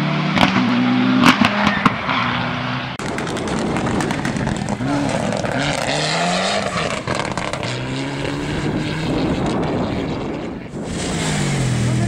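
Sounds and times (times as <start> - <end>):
rally car engine revving: 0.0 - 12.0
second car engine approaching: 0.0 - 12.0.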